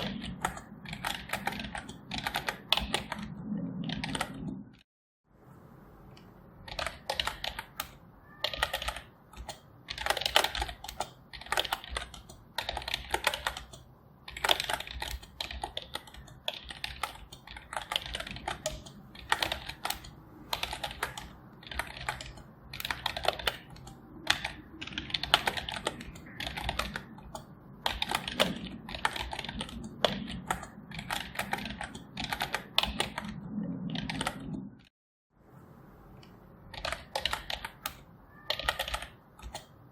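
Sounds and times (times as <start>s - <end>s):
keyboard typing: 0.0s - 4.8s, 6.1s - 34.9s, 36.2s - 39.9s.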